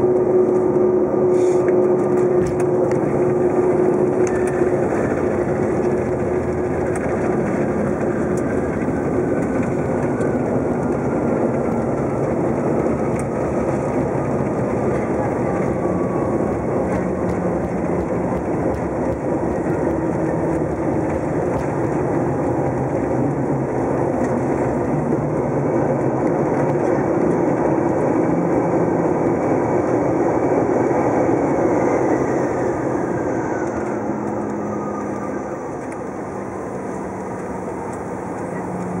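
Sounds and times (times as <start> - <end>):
jet cabin engine and airflow: 0.0 - 39.0
jet engine whine spooling down: 0.0 - 39.0.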